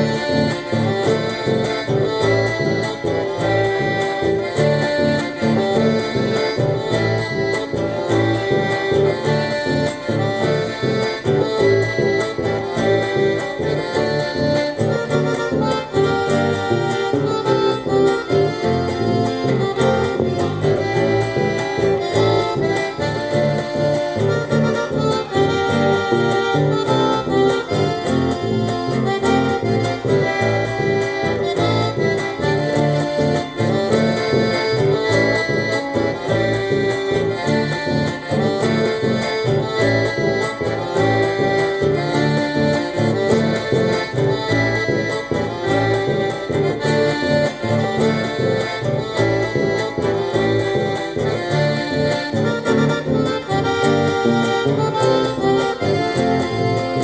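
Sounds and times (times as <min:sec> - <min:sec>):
button accordion playing: 0:00.0 - 0:57.0.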